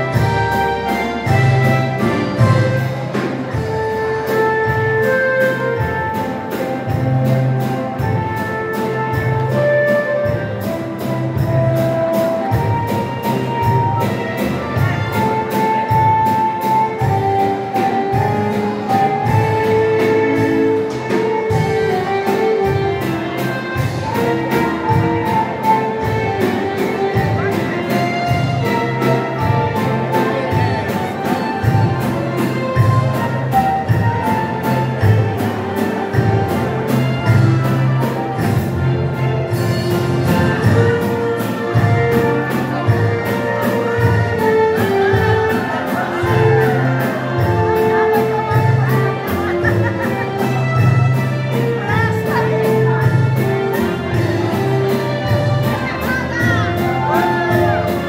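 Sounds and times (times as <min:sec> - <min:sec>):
dance band playing a waltz: 0:00.0 - 0:58.0.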